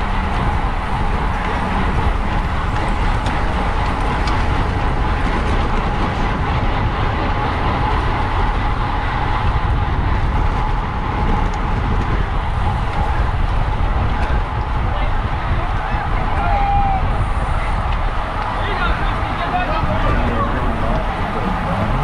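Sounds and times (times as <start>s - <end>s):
bicycle road noise: 0.0s - 22.0s
wind rush: 0.0s - 22.0s.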